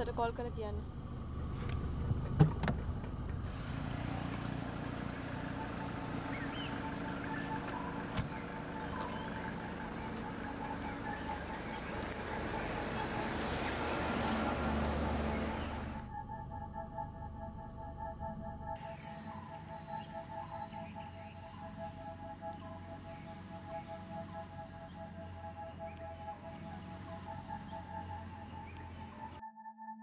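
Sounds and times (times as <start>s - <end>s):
street traffic: 0.0s - 16.1s, 18.8s - 29.4s.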